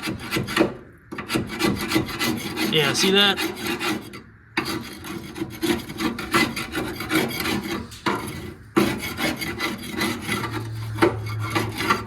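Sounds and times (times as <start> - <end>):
hand scraping gunk from metal: 0.0 - 12.0.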